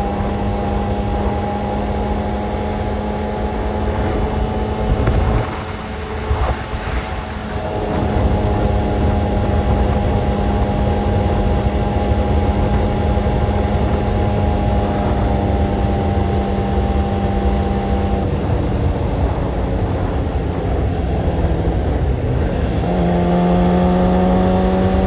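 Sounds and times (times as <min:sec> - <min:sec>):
motorcycle engine running: 0:00.0 - 0:25.0
wind rumbling on microphone: 0:00.0 - 0:25.0.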